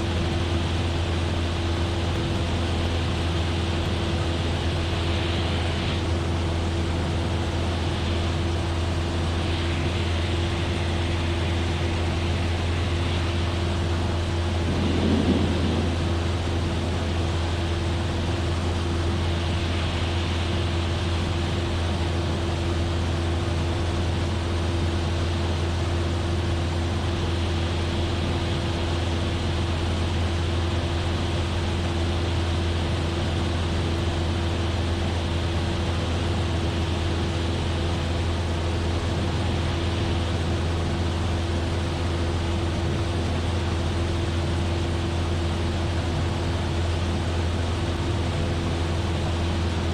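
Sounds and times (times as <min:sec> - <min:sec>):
aircraft engine and propeller droning: 0:00.0 - 0:49.9.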